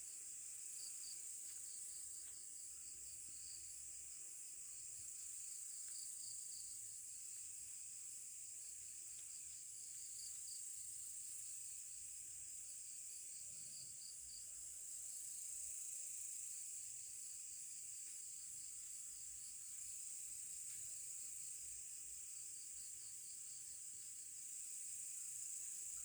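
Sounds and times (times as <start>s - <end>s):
rapid cricket chirps: 0.0s - 26.0s.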